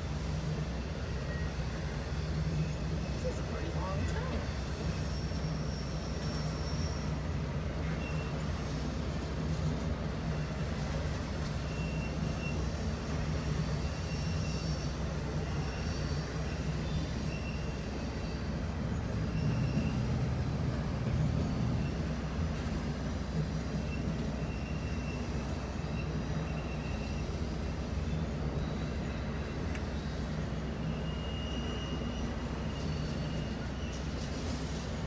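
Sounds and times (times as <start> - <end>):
freight train rumbling past: 0.0 - 35.0
high wheel squeals: 0.1 - 35.0.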